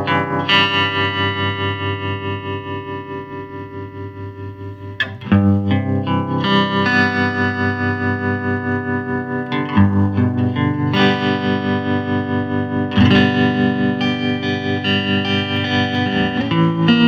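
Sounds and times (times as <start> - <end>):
overdriven electric guitar chords: 0.0 - 17.0.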